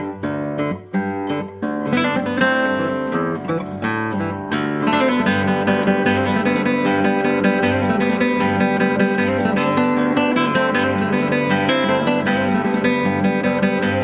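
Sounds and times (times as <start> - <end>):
acoustic guitar picked and strummed: 0.0 - 14.0.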